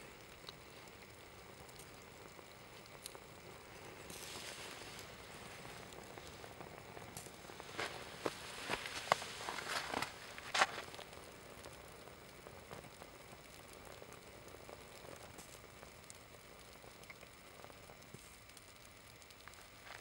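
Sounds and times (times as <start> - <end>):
low steady hiss: 0.0 - 20.0
small flames crackling and sizzling: 0.0 - 20.0
light ticks: 0.2 - 20.0.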